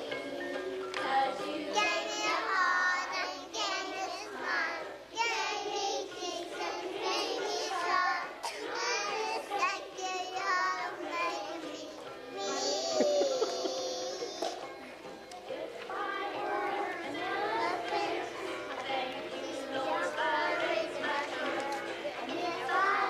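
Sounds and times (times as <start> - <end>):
children singing: 0.0 - 23.0.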